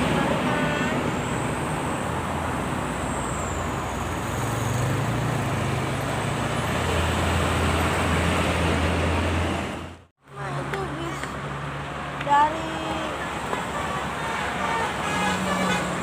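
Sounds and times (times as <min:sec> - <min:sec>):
heavy vehicle engines droning: 0:00.0 - 0:16.0
tyre and road noise: 0:00.0 - 0:16.0.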